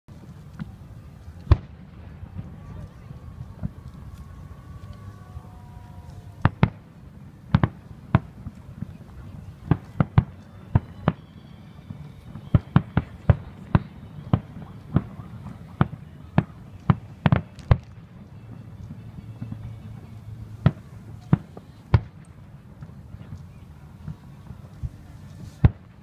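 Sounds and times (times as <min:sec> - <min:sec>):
fireworks booming: 0:00.1 - 0:26.0.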